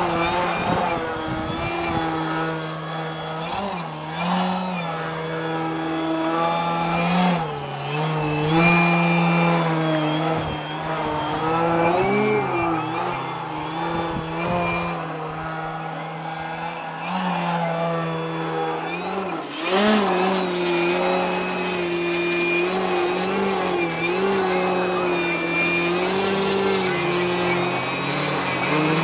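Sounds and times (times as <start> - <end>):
model plane engines droning: 0.0 - 29.0.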